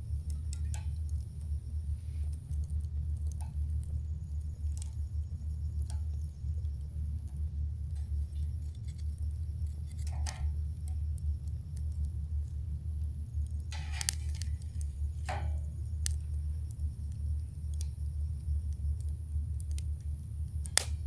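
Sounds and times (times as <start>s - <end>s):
campfire crackling and popping: 0.0s - 21.0s
low fire rumble: 0.0s - 21.0s.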